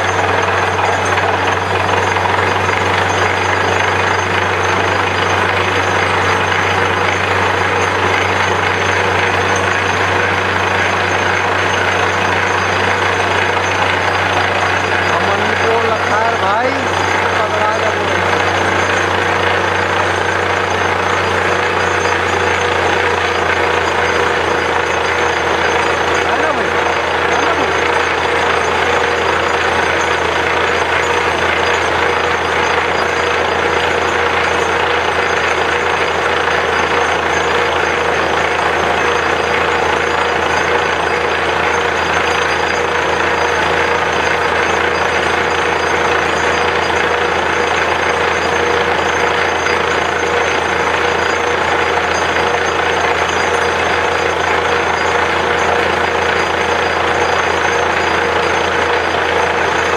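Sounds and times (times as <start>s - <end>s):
drilling rig running: 0.0s - 59.9s.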